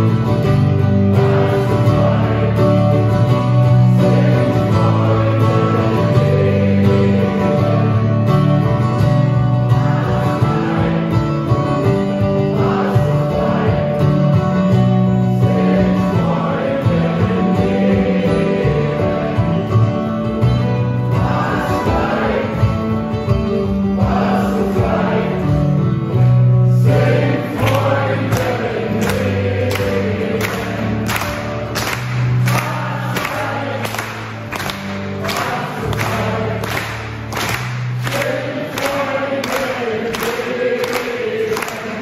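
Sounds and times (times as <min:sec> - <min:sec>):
acoustic guitars playing: 0:00.0 - 0:42.0
people singing: 0:00.0 - 0:42.0.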